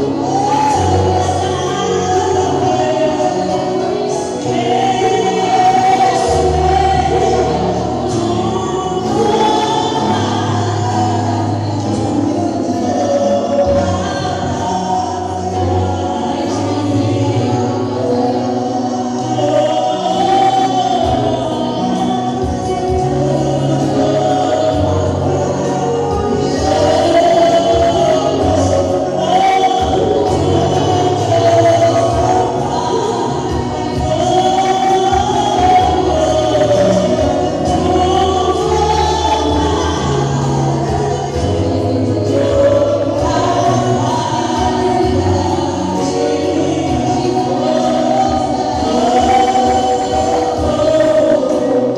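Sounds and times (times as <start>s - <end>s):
gospel choir singing: 0.0s - 51.9s
instrumental backing with bass: 0.0s - 51.9s.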